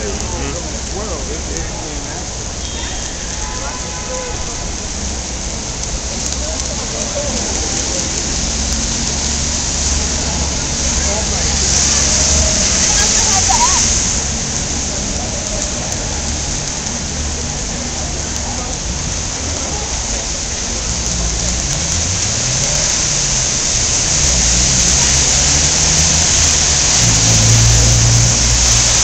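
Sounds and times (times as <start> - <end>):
heavy rain hiss: 0.0 - 29.0
traffic rumble: 0.0 - 29.0
vehicle engine hum: 4.8 - 29.0.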